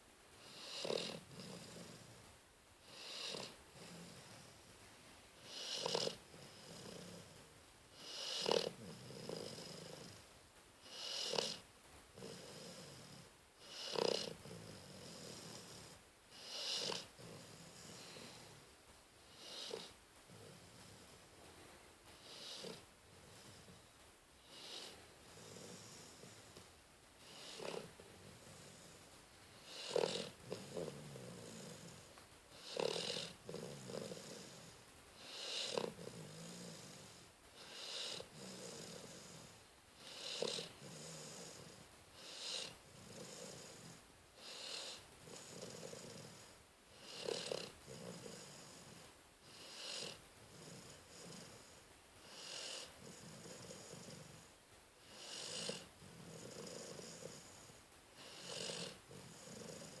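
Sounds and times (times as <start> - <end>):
dog snoring: 0.4 - 4.8, 5.4 - 60.0.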